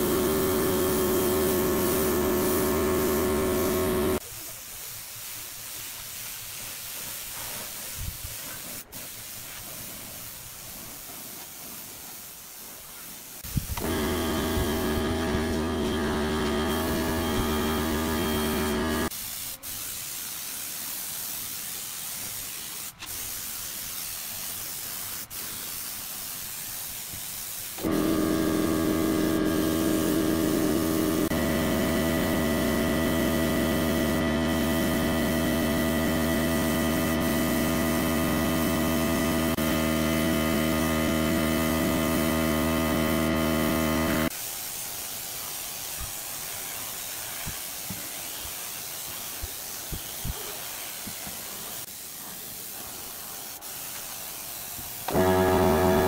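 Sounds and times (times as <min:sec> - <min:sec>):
spray gun hissing: 0:00.0 - 0:56.0.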